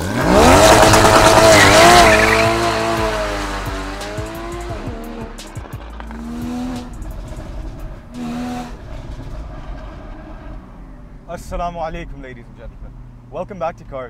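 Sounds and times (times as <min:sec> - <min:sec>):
sports car pulling away: 0:00.0 - 0:11.3
exhaust pops: 0:00.0 - 0:12.4.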